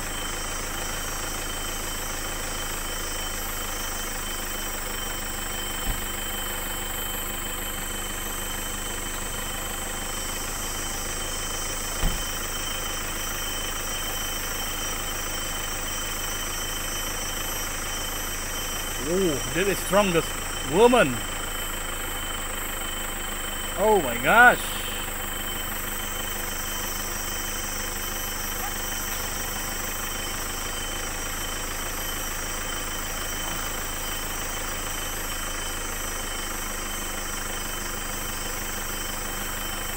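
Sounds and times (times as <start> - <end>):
engine running inside cabin: 0.0 - 39.9.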